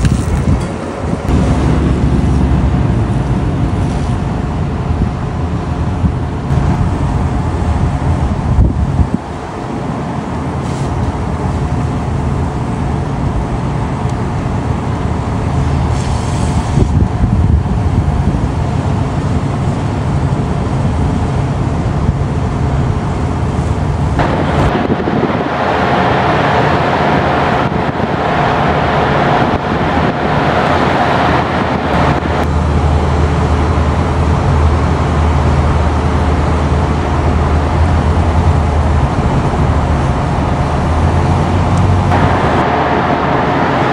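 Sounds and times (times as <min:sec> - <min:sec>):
water jet hissing rush: 0:00.0 - 0:13.8, 0:14.5 - 0:17.1, 0:23.4 - 0:43.9
engine and crane machinery hum: 0:00.0 - 0:43.9.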